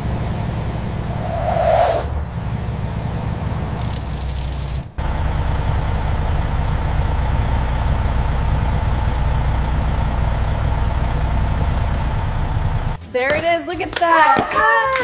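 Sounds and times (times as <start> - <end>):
low machinery drone: 0.0 - 13.0.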